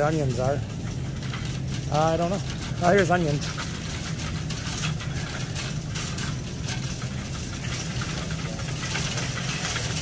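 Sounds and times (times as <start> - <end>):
faint clicks and rustles: 0.0 - 10.0
low mechanical hum: 0.0 - 10.0.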